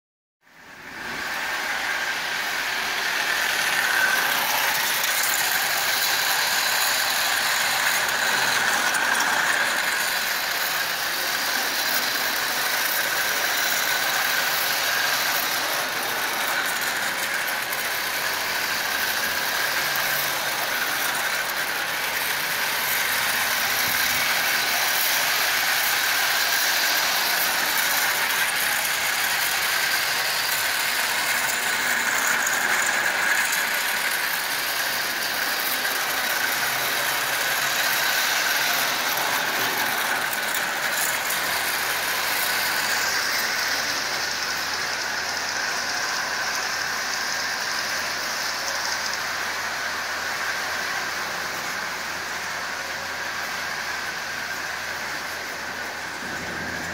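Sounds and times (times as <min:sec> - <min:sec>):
toy train motor whirring: 0:00.6 - 0:56.9
wheels rattling on metal rails: 0:00.9 - 0:56.9.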